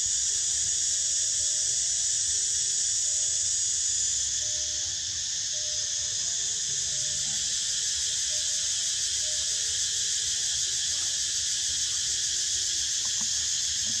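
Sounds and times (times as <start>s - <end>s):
insect chorus drone: 0.0s - 14.0s.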